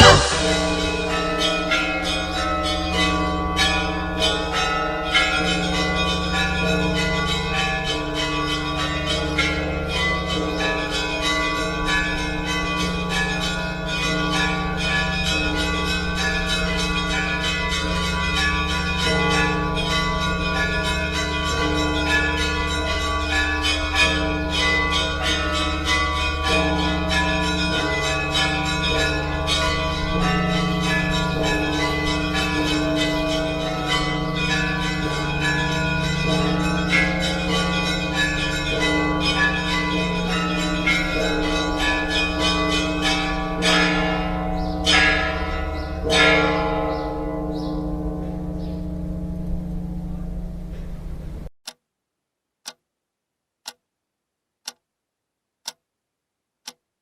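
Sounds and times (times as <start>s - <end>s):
church bells pealing: 0.0s - 51.4s.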